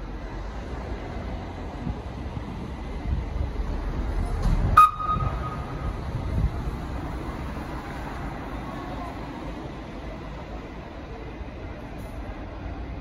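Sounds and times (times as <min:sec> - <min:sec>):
locomotive rumbling over tracks: 0:00.0 - 0:13.0.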